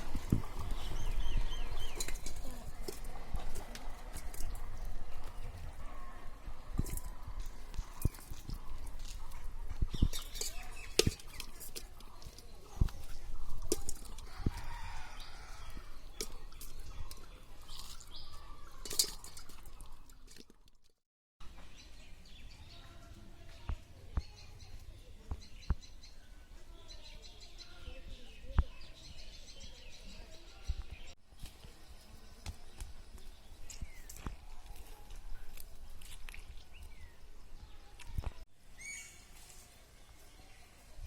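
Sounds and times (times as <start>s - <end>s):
birds chirping: 0.0s - 20.3s, 21.6s - 39.3s.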